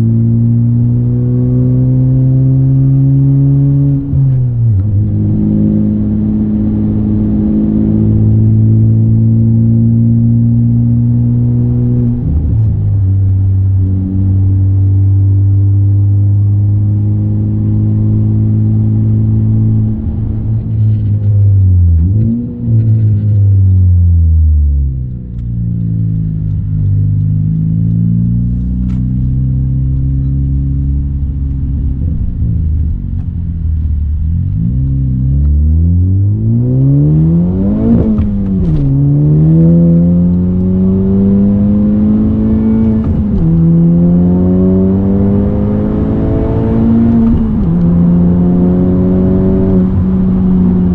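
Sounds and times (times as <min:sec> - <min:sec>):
car engine revving from inside cabin: 0:00.0 - 0:33.2, 0:34.0 - 0:50.9.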